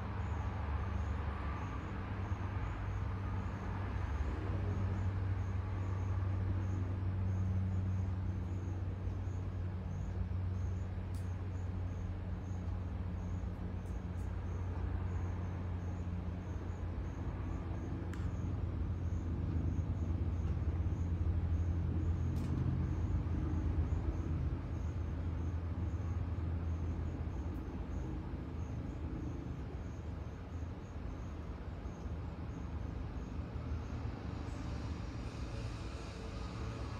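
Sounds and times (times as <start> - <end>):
low mechanical hum: 0.0 - 36.9.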